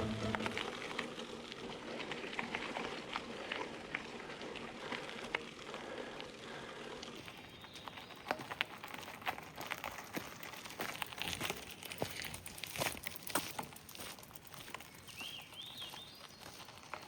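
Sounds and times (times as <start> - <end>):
bicycle tyres crunching on gravel: 0.0 - 17.0.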